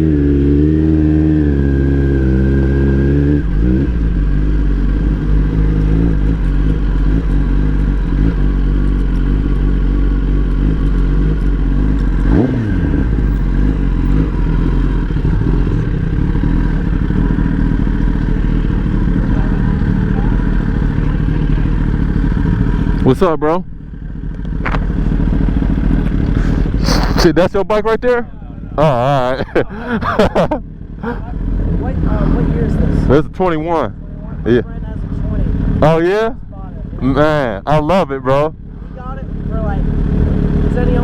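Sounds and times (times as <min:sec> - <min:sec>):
motorcycle engines running: 0:00.0 - 0:41.0.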